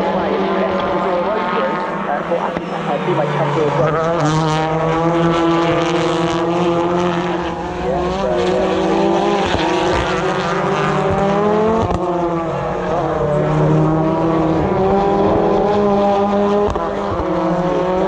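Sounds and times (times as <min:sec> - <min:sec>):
racing car engines passing: 0:00.0 - 0:18.0.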